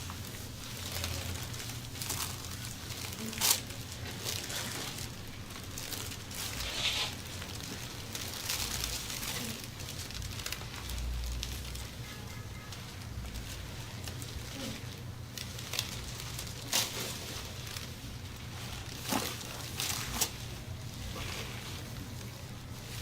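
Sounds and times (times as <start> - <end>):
rustling and crinkling: 0.0 - 23.0.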